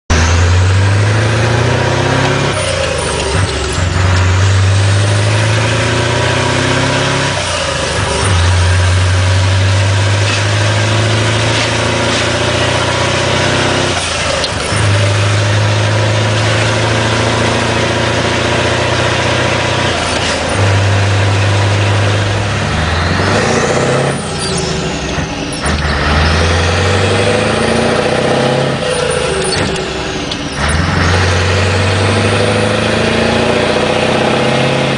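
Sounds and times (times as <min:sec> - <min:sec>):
diesel engine through open exhaust: 0:00.1 - 0:34.9.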